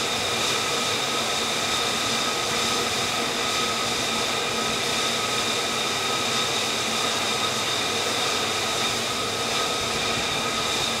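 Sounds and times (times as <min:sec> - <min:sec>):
jet engine idling: 0:00.0 - 0:11.0.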